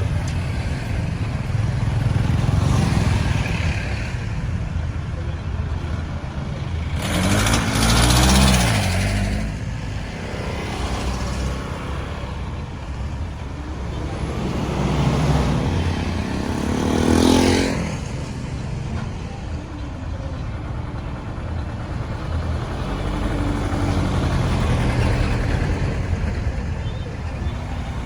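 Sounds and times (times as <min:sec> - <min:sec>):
low traffic rumble: 0:00.0 - 0:28.0
vehicles passing: 0:00.0 - 0:28.0.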